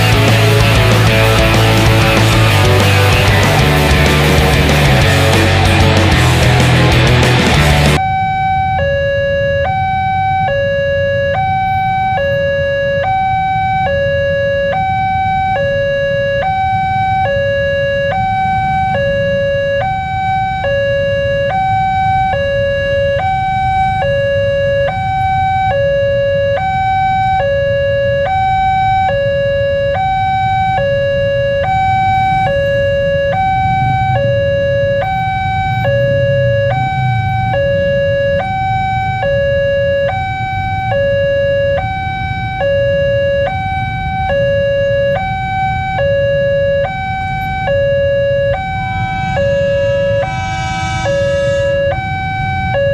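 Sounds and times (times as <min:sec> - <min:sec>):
low rumble of traffic: 0:00.0 - 0:52.9.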